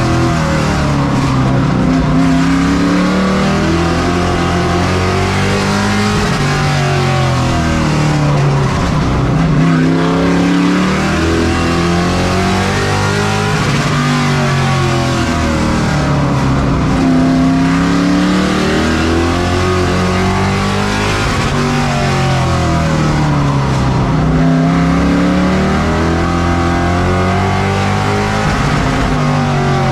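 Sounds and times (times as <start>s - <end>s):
race truck engines: 0.0s - 29.9s.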